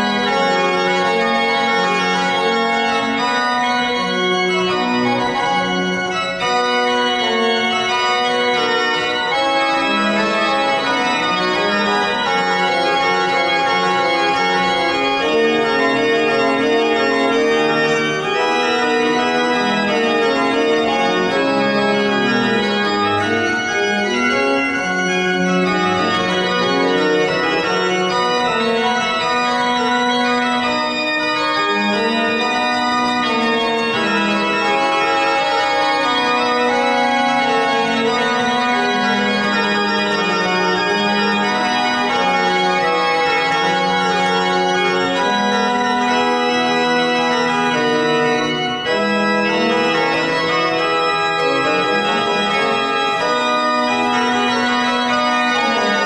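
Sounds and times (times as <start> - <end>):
pipe organ chorale: 0.0 - 56.0.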